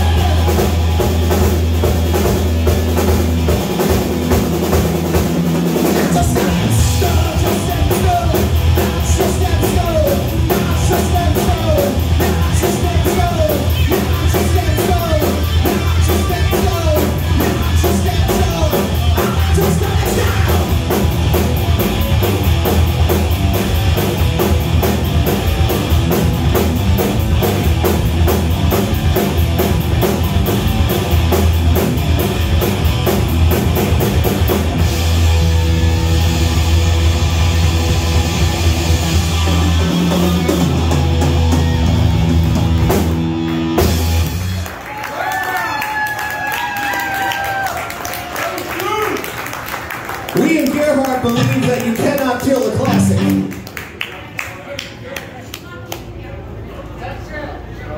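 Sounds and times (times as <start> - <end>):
live rock band playing: 0.0 - 45.0, 50.0 - 53.8.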